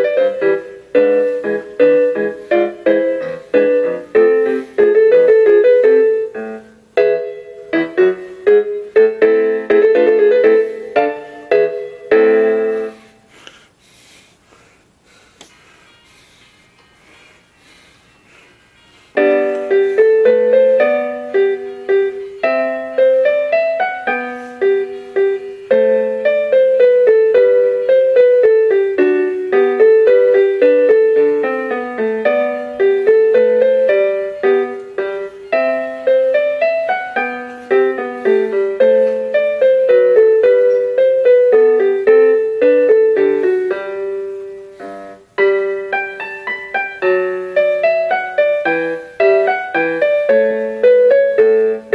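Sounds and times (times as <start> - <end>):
electronic keyboard piano melody: 0.0 - 13.4, 15.9 - 51.9.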